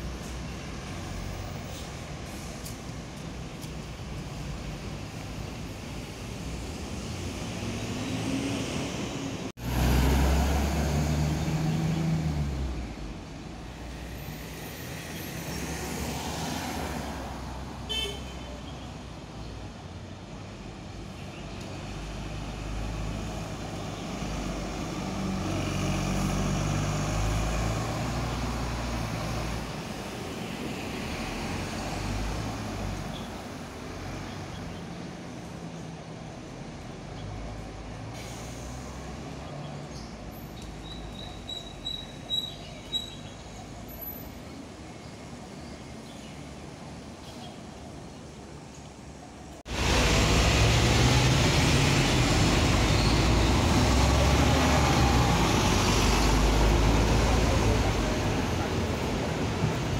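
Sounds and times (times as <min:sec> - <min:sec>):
bus engines: 0:00.0 - 0:59.9
street traffic: 0:00.0 - 0:59.9.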